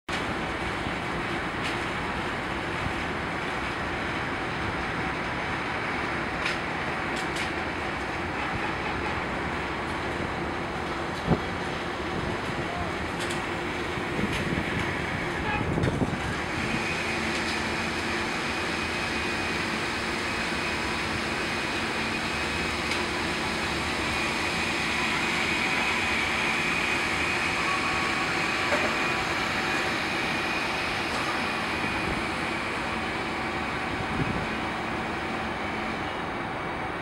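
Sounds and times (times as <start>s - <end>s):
city hiss and rumble: 0.1s - 37.0s.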